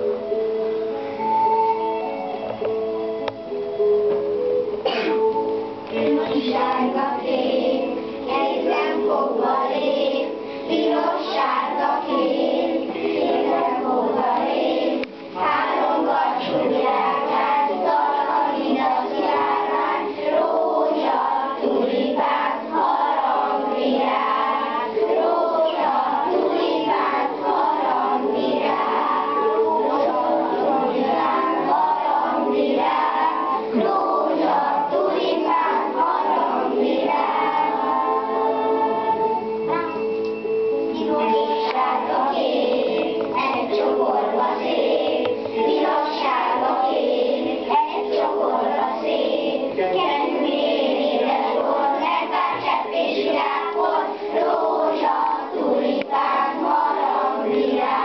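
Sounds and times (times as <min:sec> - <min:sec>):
children singing together: 0:04.8 - 0:58.0.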